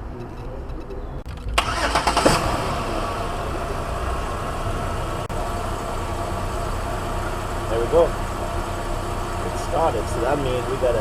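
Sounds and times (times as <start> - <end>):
car engine cranking and idling: 1.2 - 11.0.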